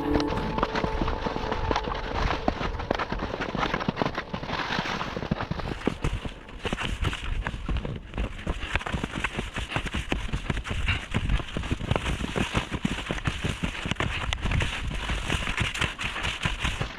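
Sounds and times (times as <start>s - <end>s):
skis crunching over snow: 0.0s - 16.9s.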